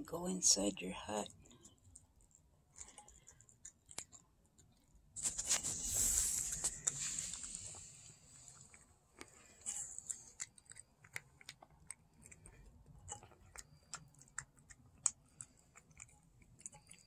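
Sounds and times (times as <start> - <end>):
cat chewing wet food: 1.2 - 17.0.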